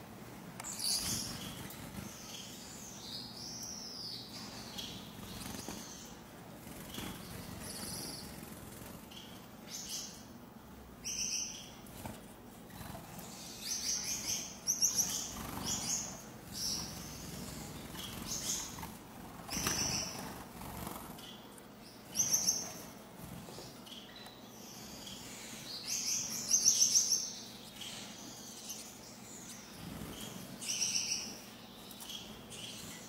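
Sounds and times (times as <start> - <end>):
finches chirping: 0.6 - 11.9, 12.7 - 33.0.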